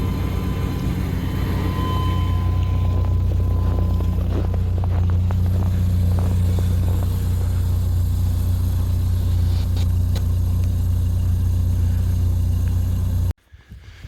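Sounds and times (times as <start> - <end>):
vehicle engine humming: 0.0 - 13.4.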